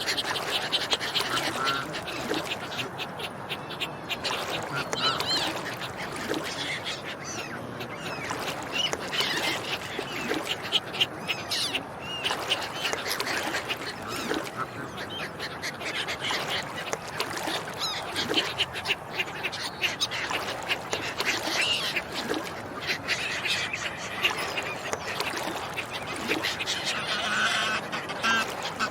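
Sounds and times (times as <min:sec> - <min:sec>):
ducks quacking: 0:00.0 - 0:28.9
waterfowl calls: 0:00.0 - 0:28.9.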